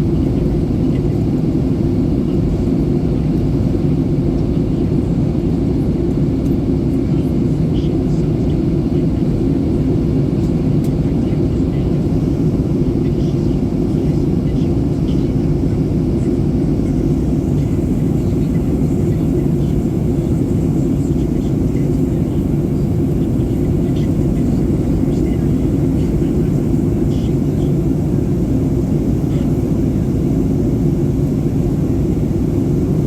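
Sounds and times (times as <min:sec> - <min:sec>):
jet engines humming: 0:00.0 - 0:33.0.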